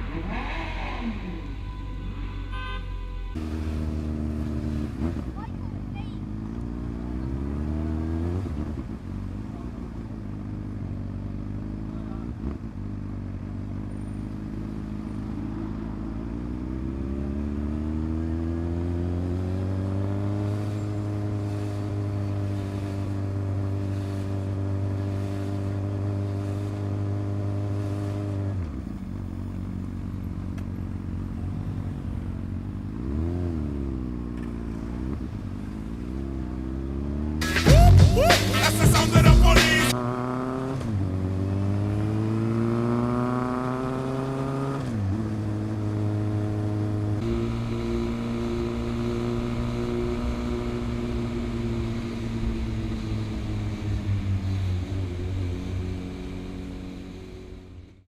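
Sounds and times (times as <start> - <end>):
motorcycle engine accelerating: 3.4 - 58.0.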